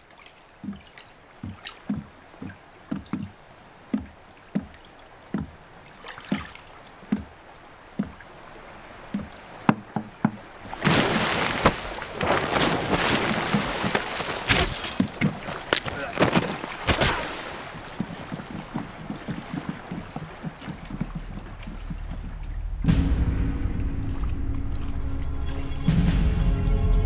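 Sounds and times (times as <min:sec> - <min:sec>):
footsteps on wooden planks: 0:00.1 - 0:22.7.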